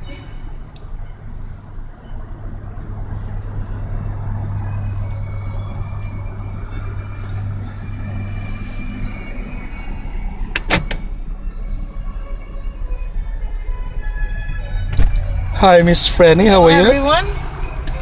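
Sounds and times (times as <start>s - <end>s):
van engine humming: 0.0s - 18.0s.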